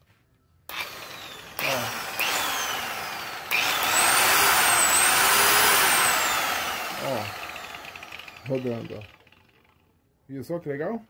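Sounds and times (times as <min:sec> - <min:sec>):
electric polisher whirring: 0:00.7 - 0:09.6.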